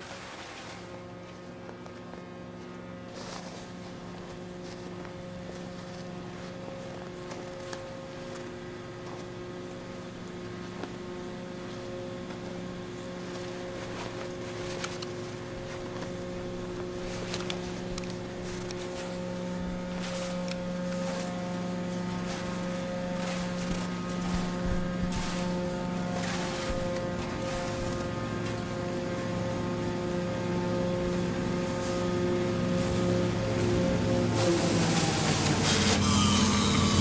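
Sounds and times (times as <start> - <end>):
woodchipper engine droning: 0.0 - 37.0.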